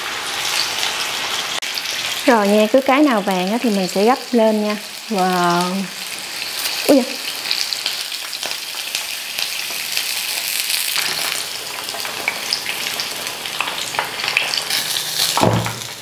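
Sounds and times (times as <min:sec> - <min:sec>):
meat sizzling in hot oil: 0:00.0 - 0:16.0
oil popping and crackling: 0:00.0 - 0:16.0.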